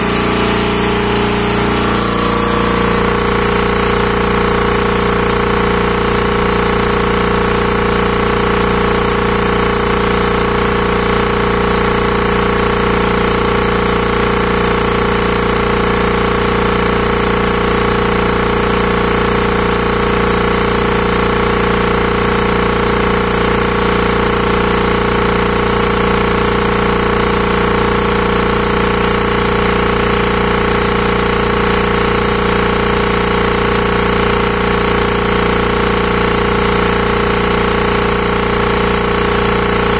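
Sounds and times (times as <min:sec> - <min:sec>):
air compressor droning: 0:00.0 - 0:39.9.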